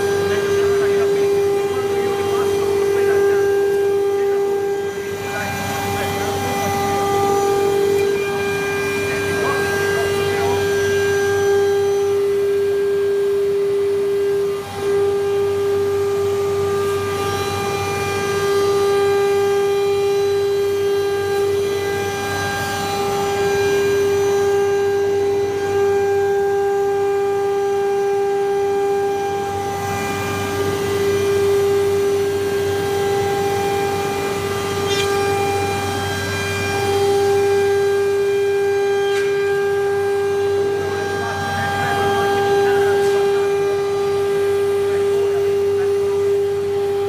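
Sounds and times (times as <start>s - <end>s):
cutting and dust extraction noise: 0.0s - 47.0s
router spindle whine: 0.0s - 47.0s.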